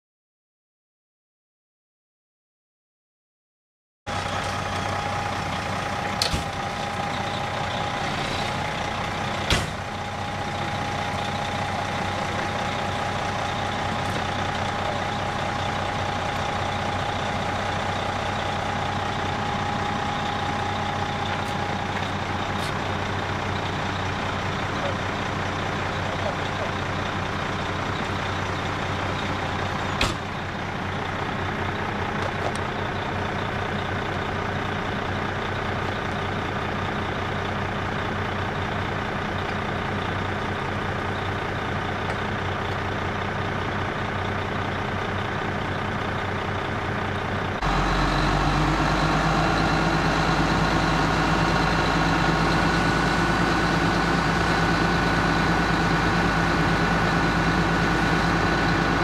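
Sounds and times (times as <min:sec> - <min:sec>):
fire engine diesel running: 0:04.1 - 0:59.0.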